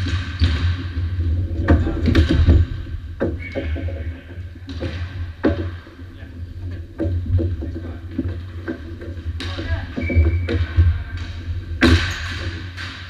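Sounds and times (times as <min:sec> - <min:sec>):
hockey sticks clacking on ball: 0:00.0 - 0:13.0.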